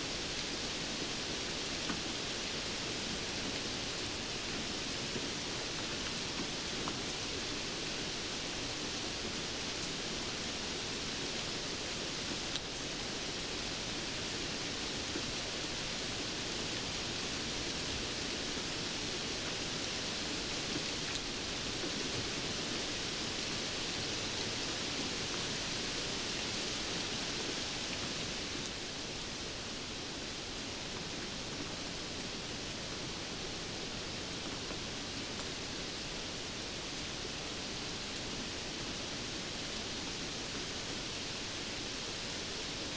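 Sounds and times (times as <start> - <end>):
steady rain hiss: 0.0 - 42.9
faint raindrop ticks: 0.2 - 29.4, 30.8 - 42.9.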